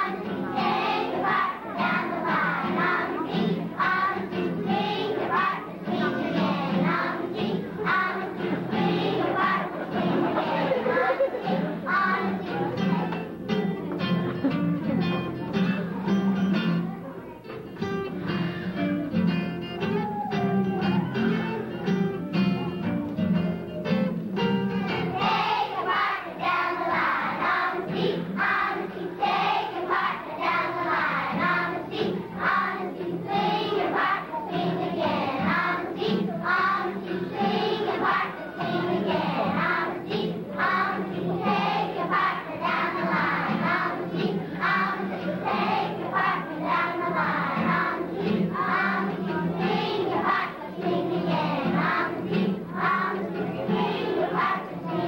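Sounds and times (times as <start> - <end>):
children's choir singing: 0.0 - 17.0, 24.7 - 55.0
guitar accompaniment: 0.0 - 55.0.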